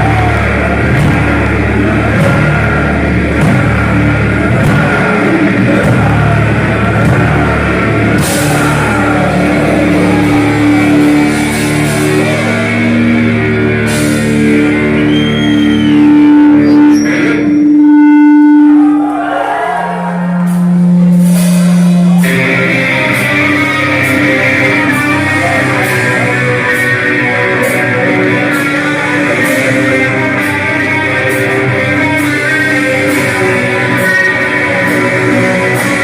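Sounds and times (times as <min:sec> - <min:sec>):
heavy metal band playing: 0:00.0 - 0:36.0
held electric guitar notes: 0:00.0 - 0:36.0.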